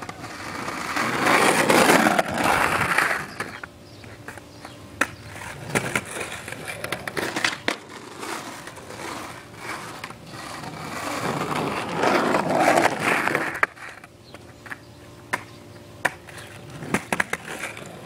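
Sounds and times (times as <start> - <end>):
skateboard wheels rolling on asphalt: 0.0 - 18.0.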